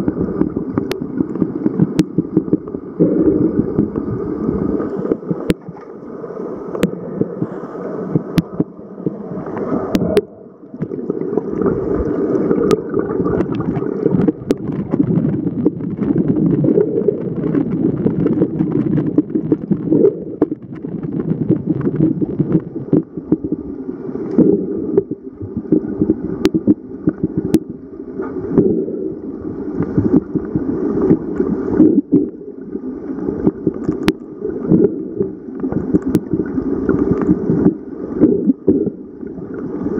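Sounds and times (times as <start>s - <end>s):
underwater rush of moving water: 0.0s - 39.9s.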